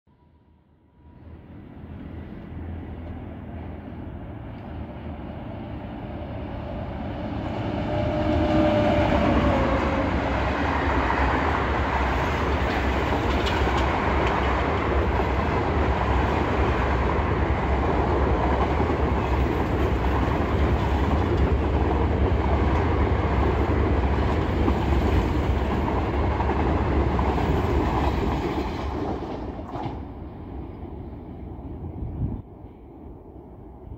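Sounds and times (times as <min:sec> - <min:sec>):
train wheels running on rails: 0:01.8 - 0:32.0.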